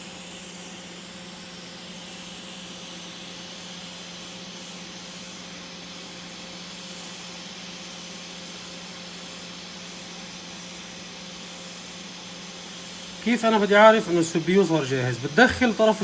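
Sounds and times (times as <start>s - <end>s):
hot-air station blowing: 0.0s - 16.0s.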